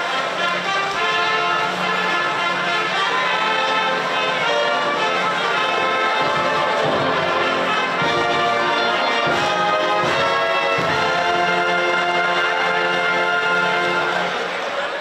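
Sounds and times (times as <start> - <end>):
brass band playing slow chords: 0.0 - 14.9.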